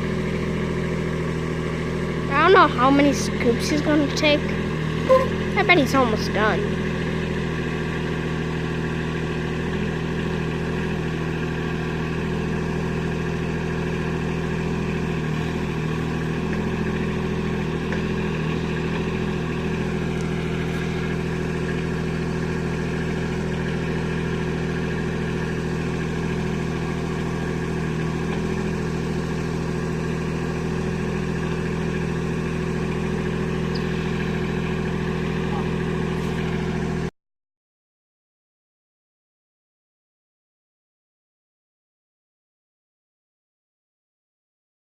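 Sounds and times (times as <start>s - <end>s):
tractor diesel engine running: 0.0s - 37.1s.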